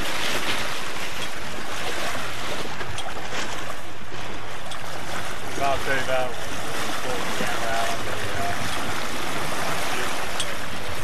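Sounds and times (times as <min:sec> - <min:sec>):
wind and water rushing: 0:00.0 - 0:11.0.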